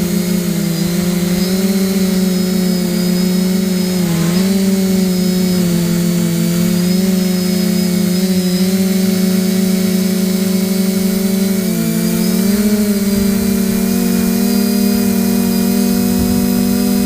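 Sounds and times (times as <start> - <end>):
motor humming with high whine: 0.0 - 17.0.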